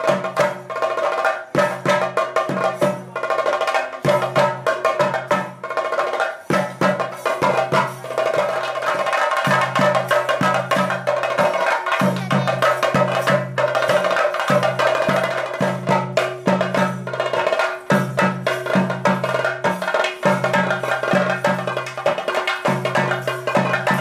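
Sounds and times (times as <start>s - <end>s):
fast drumming: 0.0s - 24.0s.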